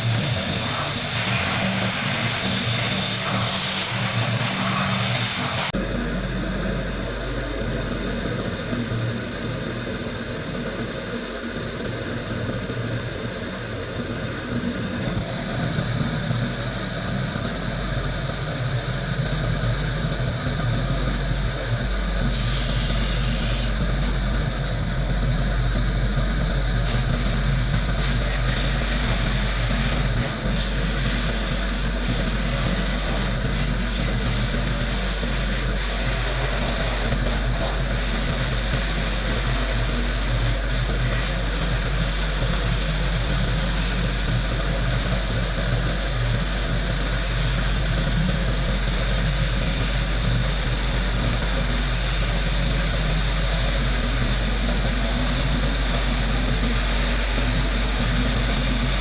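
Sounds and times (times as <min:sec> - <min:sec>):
compressed-air gun hissing: 0:00.0 - 0:59.0
motor humming: 0:00.0 - 0:59.0.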